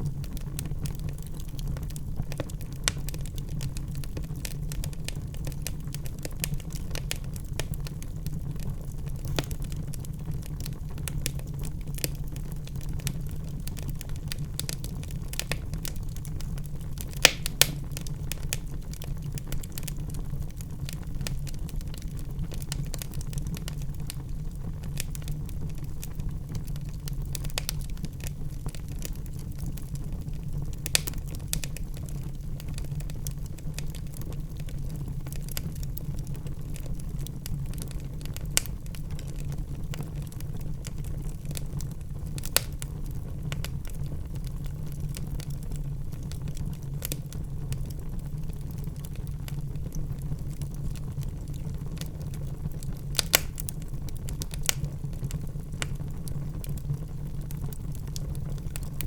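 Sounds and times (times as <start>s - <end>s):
burning logs crackling and popping: 0.0s - 59.0s
fire flames rumbling: 0.0s - 59.0s.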